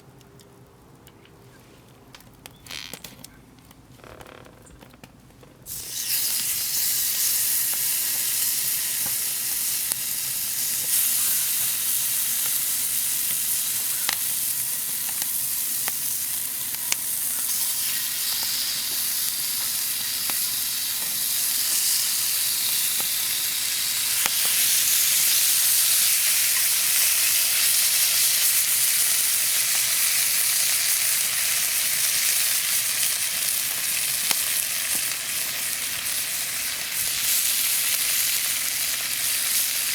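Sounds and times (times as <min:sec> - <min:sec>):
meat sizzling loudly: 0:05.7 - 0:39.9.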